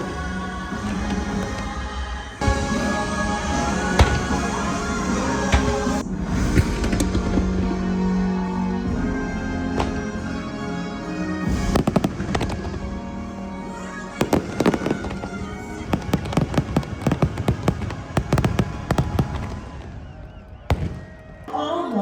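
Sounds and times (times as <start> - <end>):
fireworks bangs and cracks: 0.0 - 10.6, 11.4 - 21.7
music: 0.0 - 22.0.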